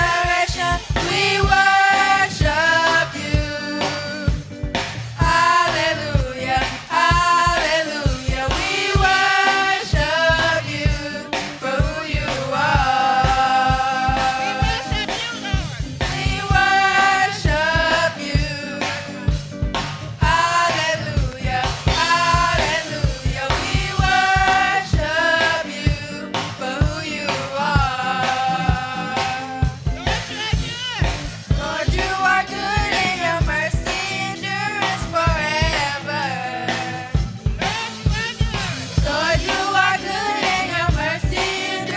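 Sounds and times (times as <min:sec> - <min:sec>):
band accompaniment: 0:00.0 - 0:41.9
choir singing gospel: 0:00.0 - 0:41.9.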